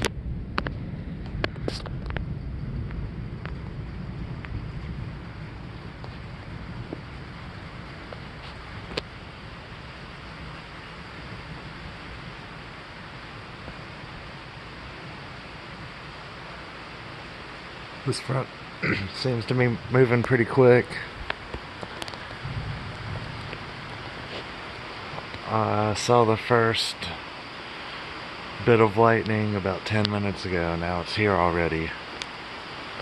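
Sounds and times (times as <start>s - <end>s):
wind and rain hiss: 0.0s - 33.0s.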